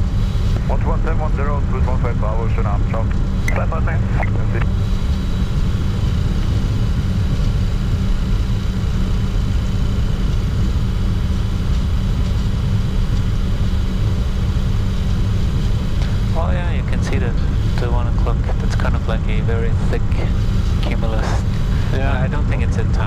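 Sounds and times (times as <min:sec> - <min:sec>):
faint high whine: 0:00.0 - 0:23.0
jet engines idling: 0:00.0 - 0:23.0.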